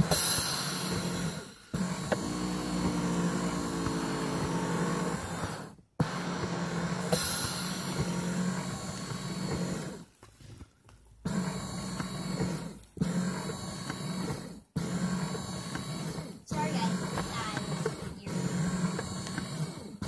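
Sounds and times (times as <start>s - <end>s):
massager motor humming: 0.0s - 10.6s, 11.2s - 20.0s
massage parts churning: 0.0s - 20.0s.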